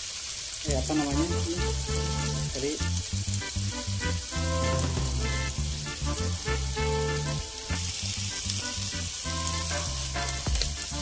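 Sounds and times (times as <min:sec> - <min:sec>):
food sizzling in hot oil: 0:00.0 - 0:11.0
background music: 0:00.7 - 0:11.0.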